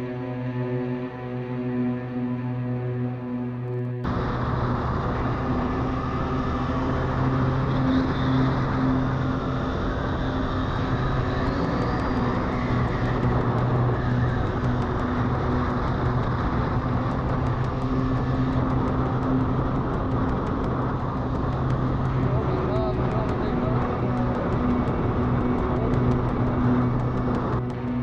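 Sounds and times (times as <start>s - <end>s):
vehicle engine hum: 3.7s - 28.0s
tyre and road noise: 4.0s - 28.0s.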